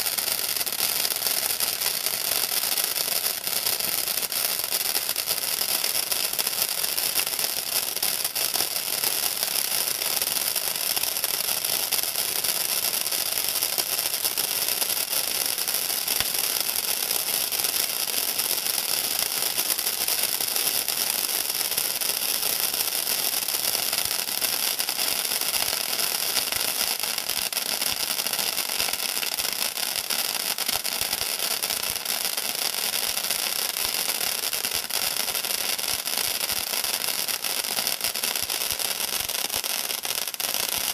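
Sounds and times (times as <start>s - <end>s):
firework fountain hissing: 0.0s - 40.9s.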